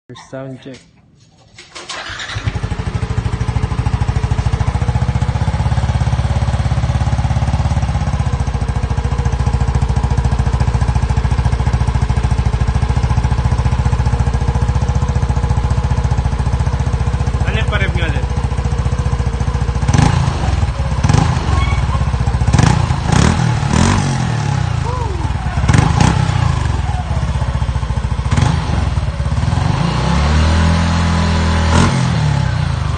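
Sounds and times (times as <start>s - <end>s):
scooter engine idling: 1.6s - 32.9s.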